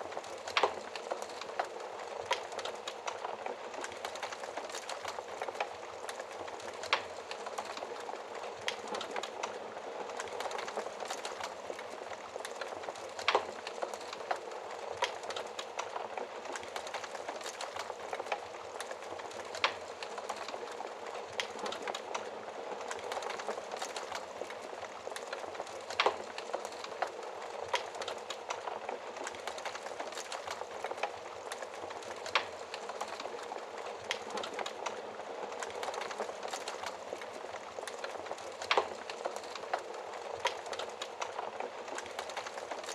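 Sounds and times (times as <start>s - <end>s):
fire hissing and crackling: 0.0s - 42.9s
fire popping: 0.0s - 42.9s.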